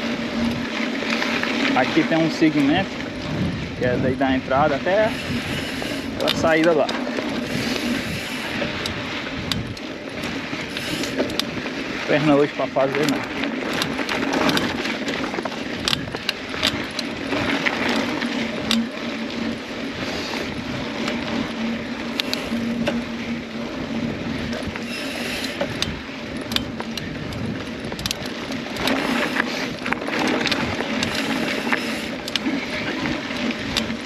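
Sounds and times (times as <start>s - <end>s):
bike clicking and rattling: 0.0s - 34.0s
bike tyres rolling on dirt: 0.0s - 34.0s.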